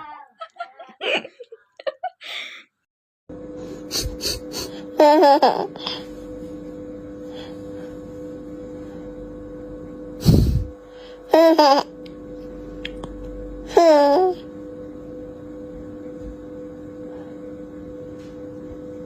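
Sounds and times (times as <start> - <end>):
steady low hum: 3.3 - 19.0.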